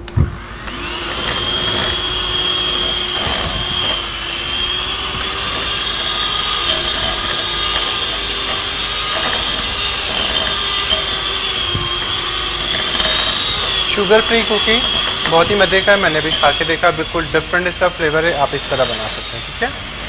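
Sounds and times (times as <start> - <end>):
electric hand mixer running: 0.0 - 20.0.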